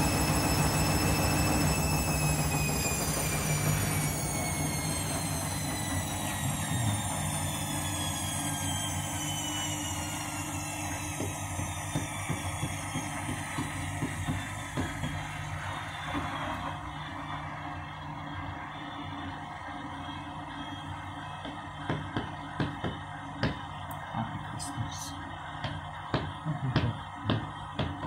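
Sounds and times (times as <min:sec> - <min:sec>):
washing machine drum whine: 0:00.0 - 0:28.0.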